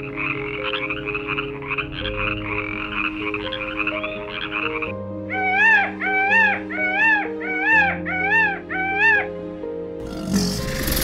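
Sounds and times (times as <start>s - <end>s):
frogs calling: 0.0s - 11.0s
soft background music: 0.0s - 11.0s.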